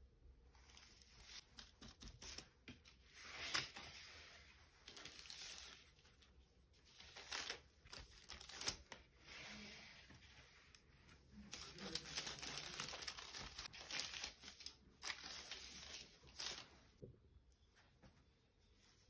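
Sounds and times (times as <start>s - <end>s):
baking paper rustling: 0.5s - 17.0s.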